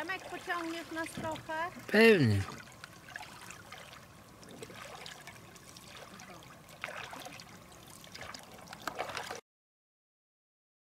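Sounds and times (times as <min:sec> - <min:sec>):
paddle splashing in water: 0:00.0 - 0:09.4.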